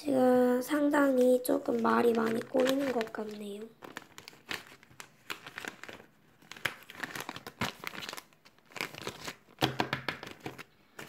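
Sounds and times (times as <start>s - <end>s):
plastic bags crinkling: 1.0s - 11.0s.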